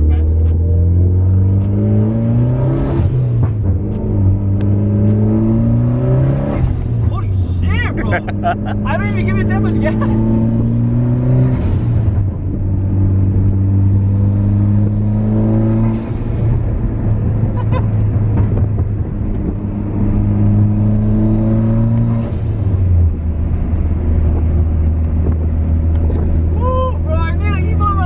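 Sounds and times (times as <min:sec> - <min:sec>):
car engine revving through gears: 0:00.0 - 0:26.5.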